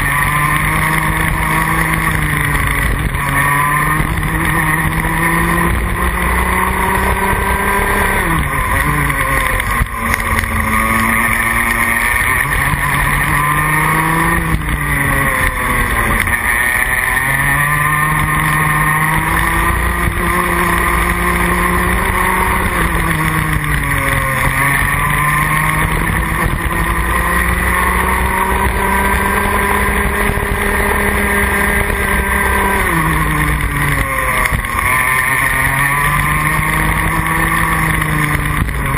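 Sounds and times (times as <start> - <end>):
two-stroke kart engine revving: 0.0 - 38.9.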